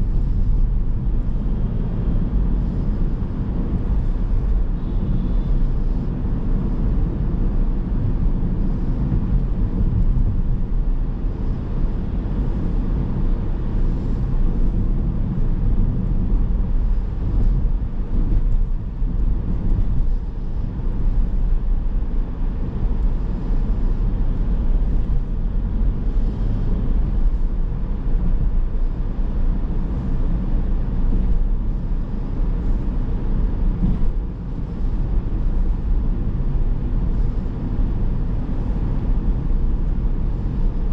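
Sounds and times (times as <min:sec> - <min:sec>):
car driving low rumble: 0:00.0 - 0:40.9.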